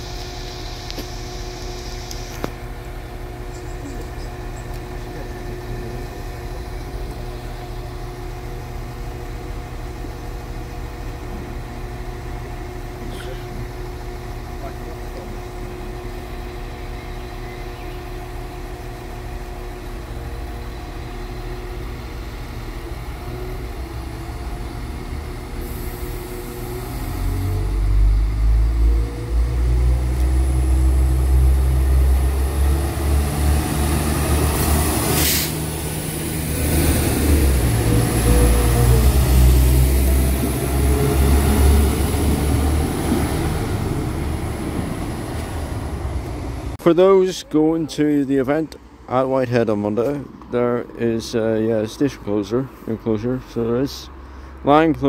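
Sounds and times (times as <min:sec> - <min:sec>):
diesel train engine: 0:00.0 - 0:55.0.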